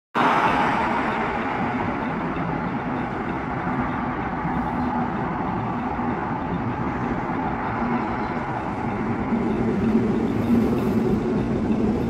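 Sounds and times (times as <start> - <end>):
road traffic: 0.2 - 12.0.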